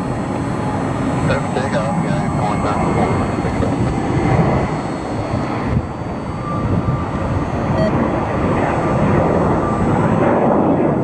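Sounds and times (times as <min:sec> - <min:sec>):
jet engines at takeoff power: 0:00.0 - 0:11.0.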